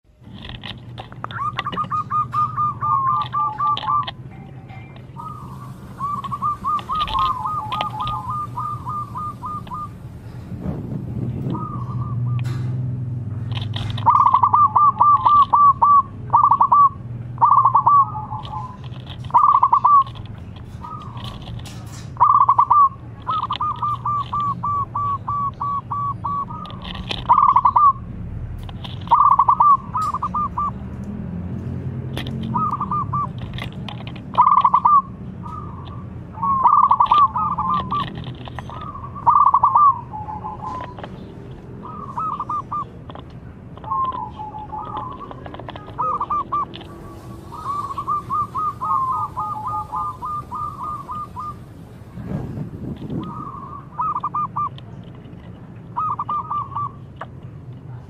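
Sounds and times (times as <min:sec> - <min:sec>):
dove cooing: 0:00.6 - 0:10.4, 0:11.3 - 0:12.7, 0:13.5 - 0:28.1, 0:28.8 - 0:30.8, 0:32.2 - 0:51.8, 0:52.9 - 0:55.2, 0:55.9 - 0:57.1.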